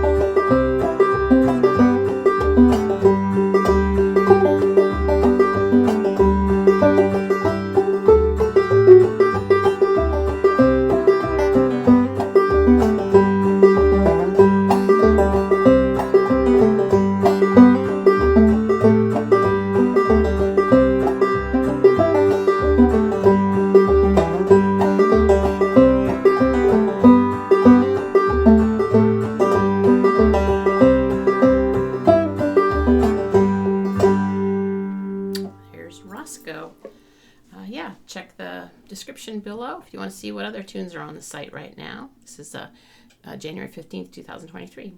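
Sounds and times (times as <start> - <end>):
backing track bass notes: 0.0 - 36.8
clawhammer banjo playing: 0.0 - 36.9.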